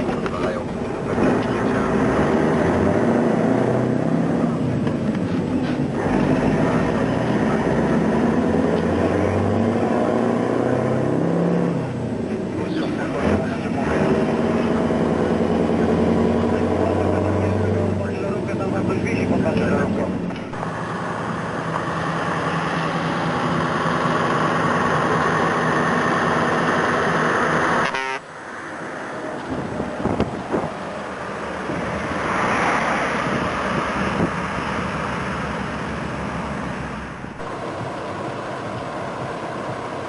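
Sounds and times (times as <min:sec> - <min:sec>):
loud truck engine running: 0:00.0 - 0:40.0.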